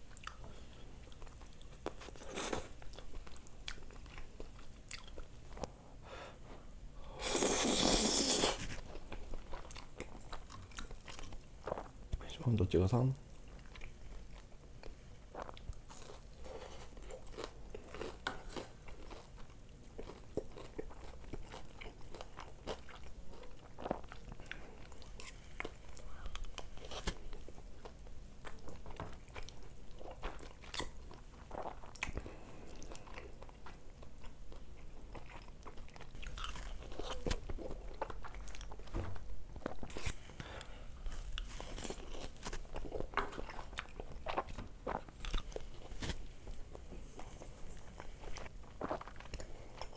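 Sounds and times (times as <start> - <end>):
person chewing crunchy food: 0.1 - 5.8, 6.6 - 12.1, 13.3 - 49.9.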